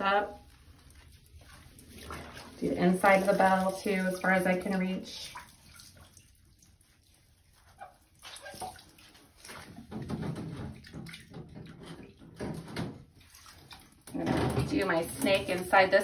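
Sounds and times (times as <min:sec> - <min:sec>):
water sloshing in a bathtub: 0:00.0 - 0:16.0.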